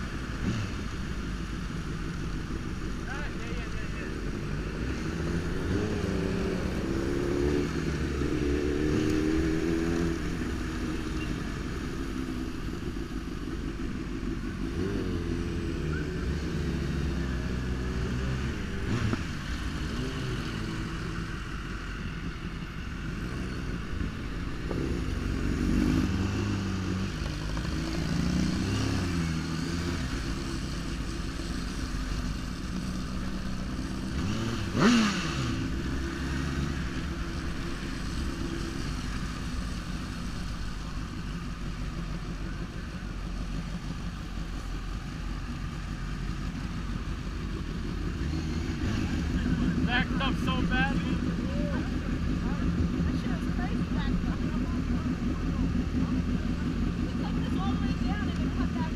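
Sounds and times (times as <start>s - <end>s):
motorcycle engine revving: 0.0s - 58.9s
road noise: 0.0s - 58.9s.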